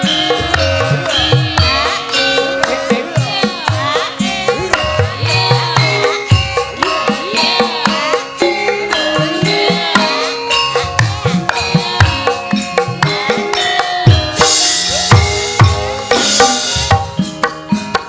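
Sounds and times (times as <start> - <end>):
metallophones and gongs ringing: 0.0 - 18.0.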